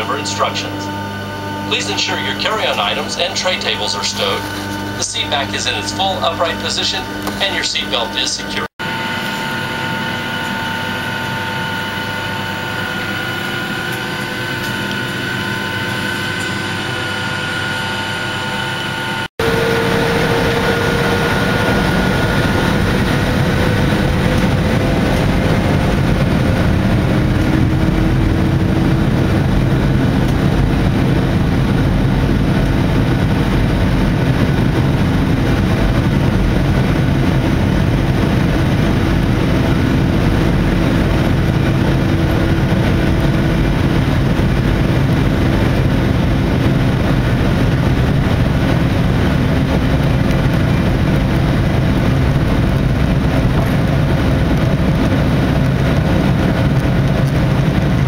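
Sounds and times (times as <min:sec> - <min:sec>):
airliner rumbling on ground: 0:00.0 - 0:58.0
jet cabin engine and airflow hum: 0:00.0 - 0:58.0.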